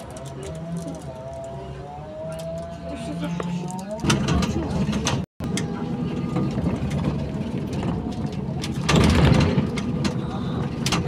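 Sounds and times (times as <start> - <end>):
trolleybus interior rumble: 0.0 - 11.0.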